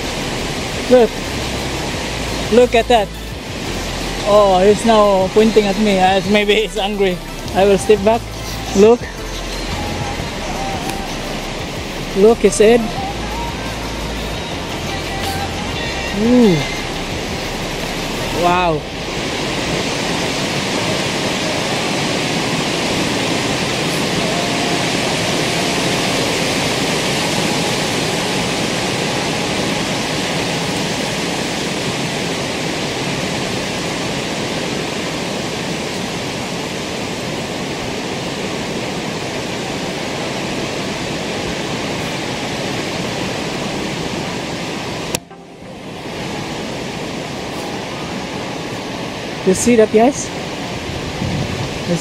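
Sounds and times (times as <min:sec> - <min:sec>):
running water: 0:00.0 - 0:52.0.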